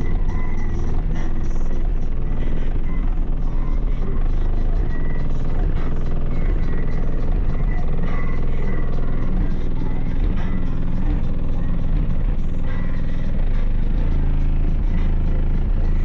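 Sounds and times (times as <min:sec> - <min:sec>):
deep bass music from car subwoofers: 0:00.0 - 0:16.0.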